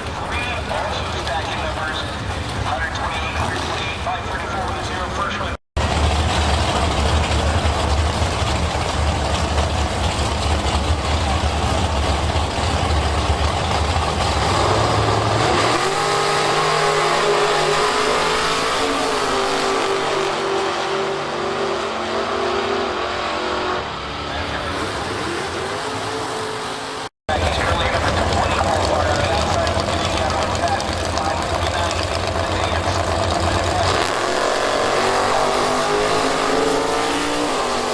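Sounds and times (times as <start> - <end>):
drag race car engine: 0.0 - 37.9.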